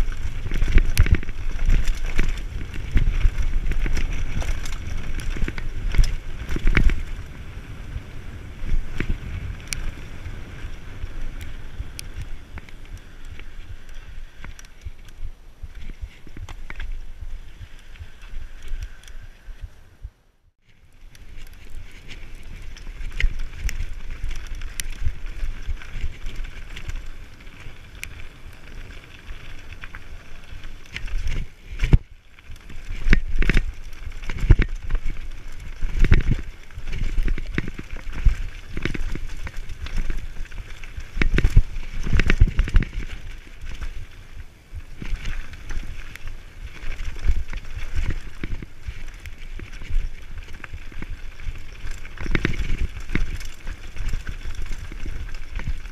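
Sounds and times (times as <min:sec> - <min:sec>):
bike knocking and rattling: 0:00.0 - 0:19.8, 0:20.6 - 0:55.9
wind and tyres rumbling: 0:00.0 - 0:55.9.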